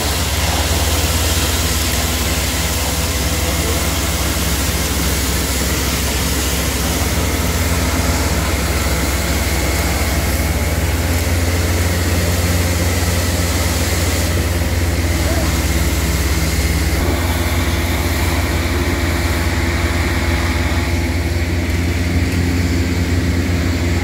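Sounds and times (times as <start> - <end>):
deep diesel engine drone: 0.0 - 24.0
vacuum system hiss: 0.0 - 24.0.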